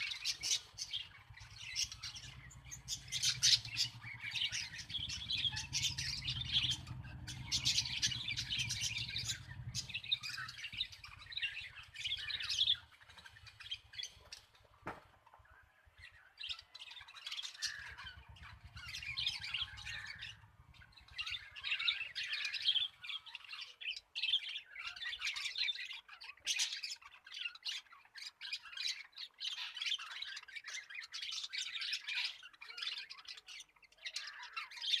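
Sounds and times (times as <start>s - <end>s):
parrots chattering and squawking: 0.0s - 14.6s, 16.5s - 35.0s.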